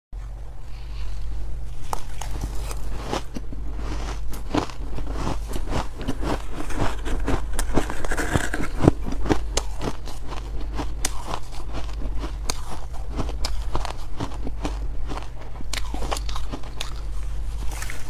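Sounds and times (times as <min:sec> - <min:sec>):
ice being chewed crunching: 0:01.7 - 0:18.0.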